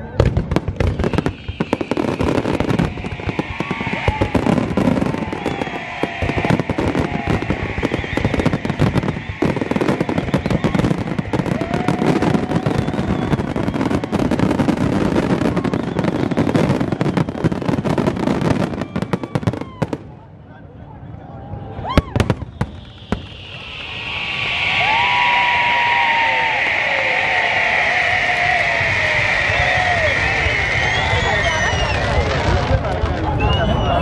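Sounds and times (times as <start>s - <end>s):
fireworks bursting and crackling: 0.0s - 20.2s, 21.9s - 34.0s.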